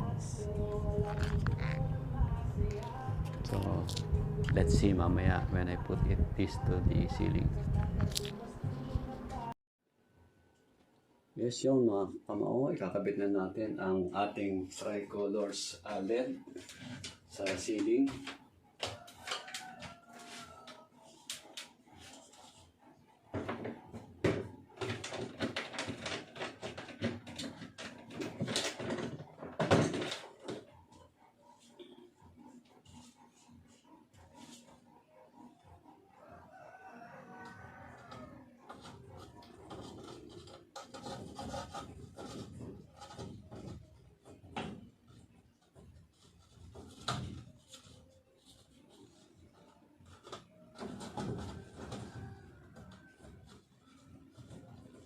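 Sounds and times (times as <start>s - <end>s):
scraping and rubbing of light fixture: 0.0s - 7.3s, 14.4s - 34.9s, 37.9s - 55.0s.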